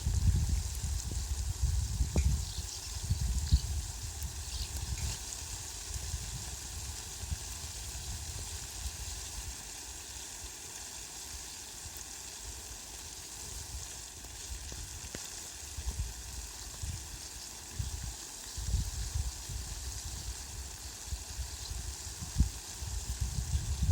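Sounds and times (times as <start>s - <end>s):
heavy rain on leafy plants: 0.0s - 23.9s.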